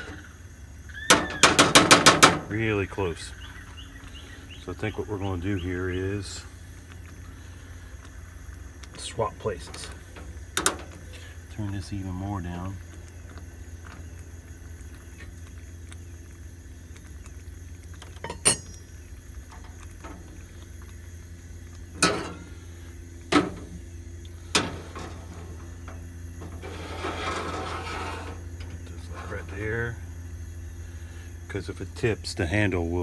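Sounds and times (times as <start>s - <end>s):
burner hissing: 4.1s - 32.1s.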